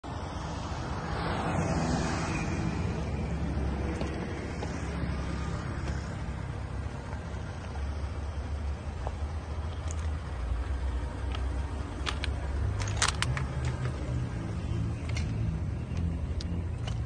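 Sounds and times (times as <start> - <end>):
car engine idling: 2.4 - 17.0.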